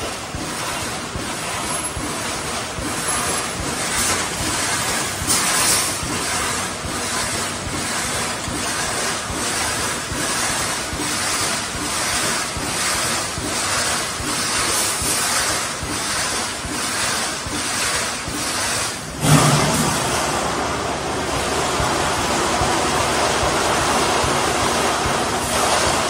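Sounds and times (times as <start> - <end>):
welding machine hissing and pulsing: 0.0 - 26.0.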